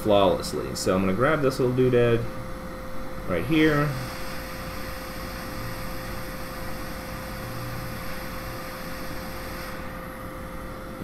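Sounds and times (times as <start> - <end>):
hot air blower hissing: 0.0 - 11.0
mid-pitched hum: 0.0 - 11.0.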